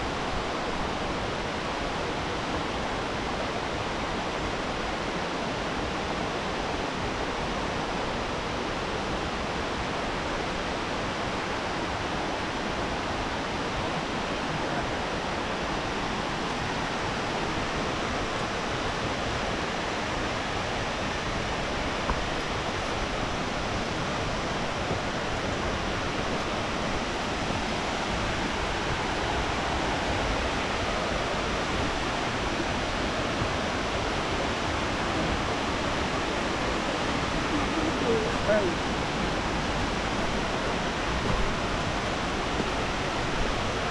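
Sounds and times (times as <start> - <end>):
rushing water: 0.0 - 43.9.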